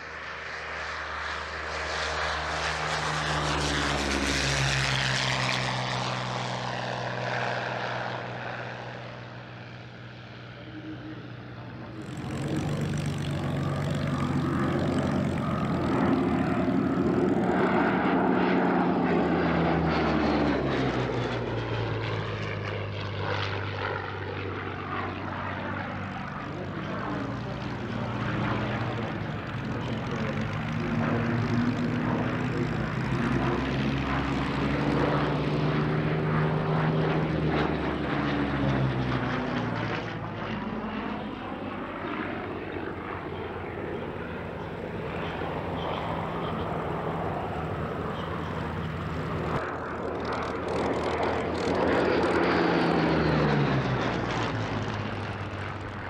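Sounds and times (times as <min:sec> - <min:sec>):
propeller aircraft flying overhead: 0:00.0 - 0:56.0.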